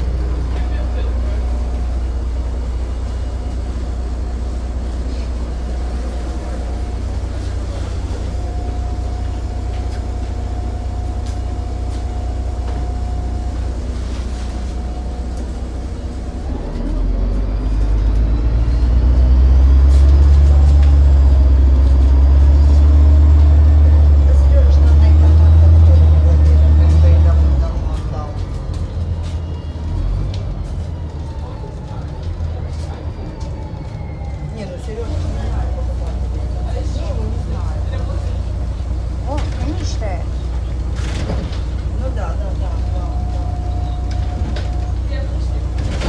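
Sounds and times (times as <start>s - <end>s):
bus engine and road rumble: 0.0s - 46.0s.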